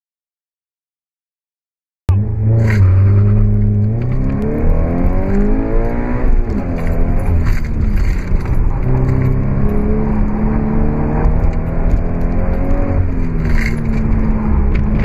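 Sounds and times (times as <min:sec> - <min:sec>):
car engine accelerating: 0:02.1 - 0:15.0.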